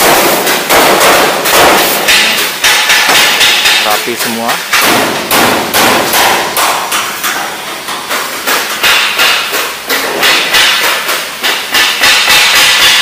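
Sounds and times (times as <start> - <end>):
hammer on sheet metal: 0.0 - 13.0.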